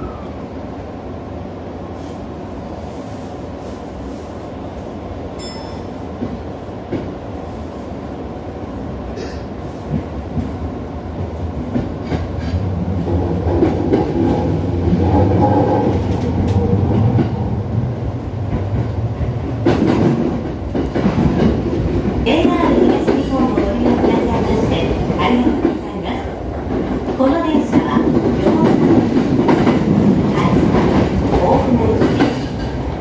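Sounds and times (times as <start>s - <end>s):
electric train running rumble: 0.0s - 33.0s.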